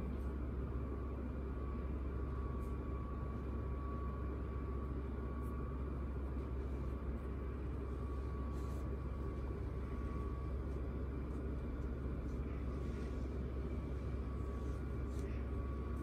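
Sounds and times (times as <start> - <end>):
faint thin whine: 0.0 - 16.0
low mechanical hum: 0.0 - 16.0.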